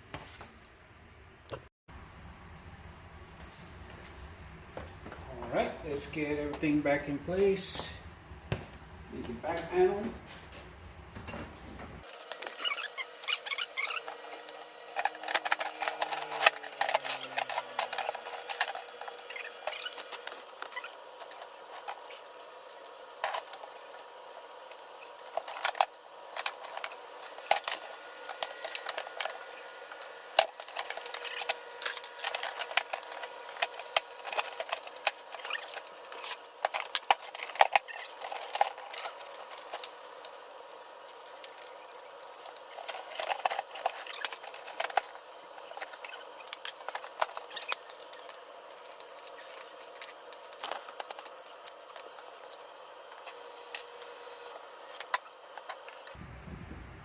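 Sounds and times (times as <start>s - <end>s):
faint steady hum: 0.4s - 57.0s.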